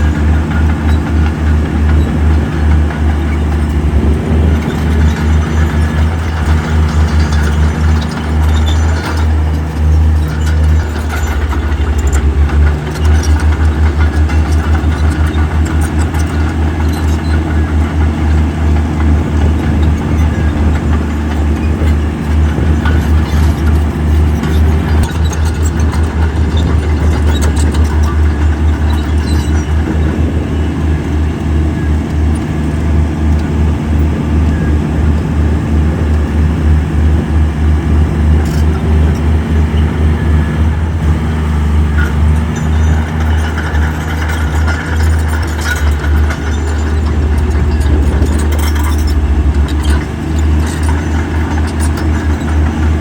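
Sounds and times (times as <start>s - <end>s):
metallic clanks and clicks: 0.0s - 35.3s, 38.2s - 40.5s, 41.4s - 53.0s
heavy diesel machinery rumbling: 0.0s - 53.0s.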